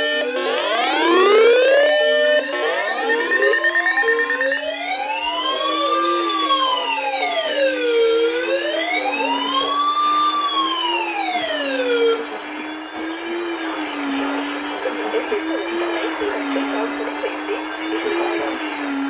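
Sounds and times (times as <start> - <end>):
wailing siren: 0.0 - 19.0.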